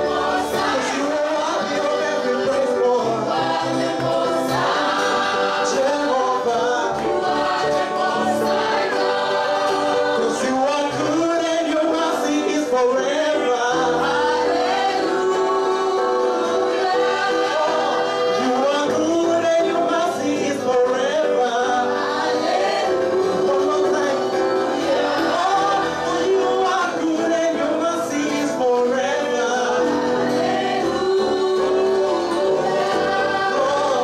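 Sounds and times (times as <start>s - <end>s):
acoustic guitar: 0.0s - 34.0s
electric keyboard: 0.0s - 34.0s
group singing gospel song: 0.0s - 34.0s.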